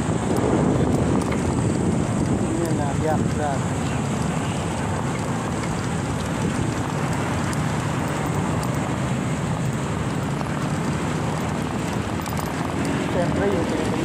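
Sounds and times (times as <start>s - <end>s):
bicycle tyres rolling on concrete: 0.0s - 14.0s
wind buffeting microphone: 0.0s - 14.0s.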